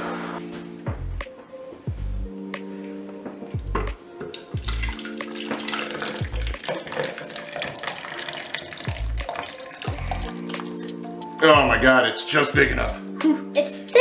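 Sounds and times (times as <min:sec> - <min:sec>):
background music with bass beat: 0:00.0 - 0:06.7, 0:08.8 - 0:14.0.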